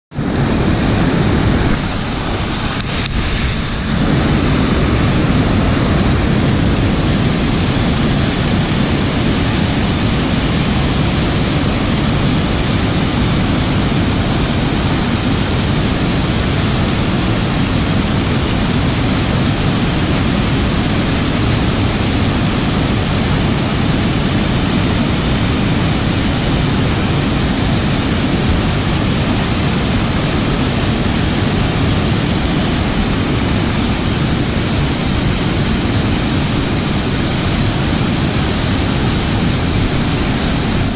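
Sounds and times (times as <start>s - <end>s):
falling water rushing: 0.1s - 40.9s.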